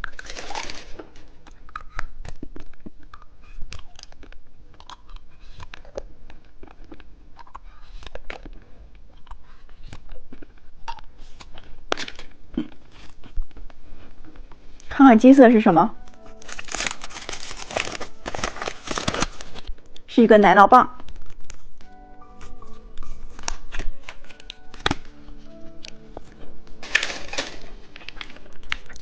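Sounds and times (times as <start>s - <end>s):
candy wrapper crackling: 0.0s - 13.7s, 16.0s - 20.1s, 20.9s - 29.0s.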